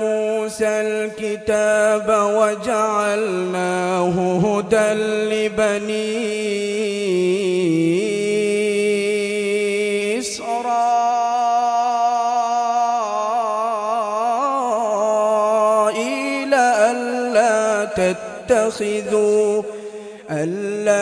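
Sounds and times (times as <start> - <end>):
man reciting melodically into microphone: 0.0 - 21.0.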